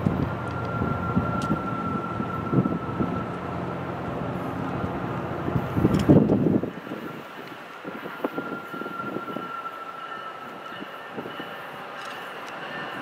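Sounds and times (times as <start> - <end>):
thin steady whine: 0.0 - 13.0
train rumbling: 0.0 - 13.0
wheels clacking on rails: 0.0 - 13.0.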